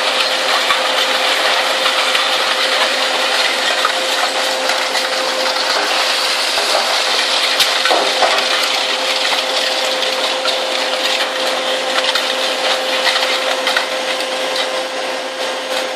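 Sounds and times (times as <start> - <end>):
machine hum: 0.0 - 15.9
shredder crunching scrap metal: 0.0 - 15.9.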